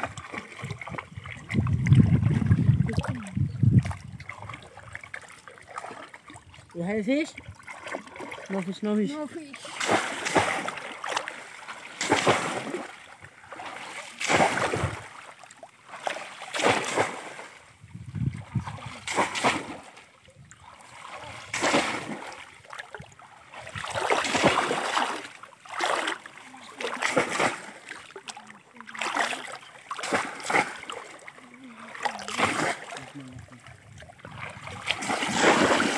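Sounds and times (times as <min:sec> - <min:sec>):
rush of water: 0:00.0 - 0:35.9
splashing in shallow water: 0:00.0 - 0:35.9.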